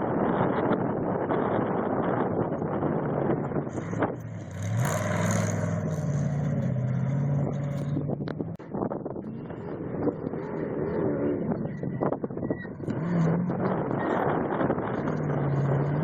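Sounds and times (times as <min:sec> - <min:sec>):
engine running at high revs: 0:00.1 - 0:16.0.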